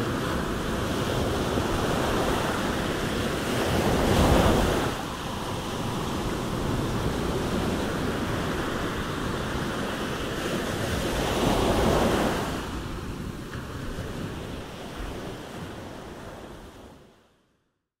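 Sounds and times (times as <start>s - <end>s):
surf breaking on a beach: 0.0s - 17.2s.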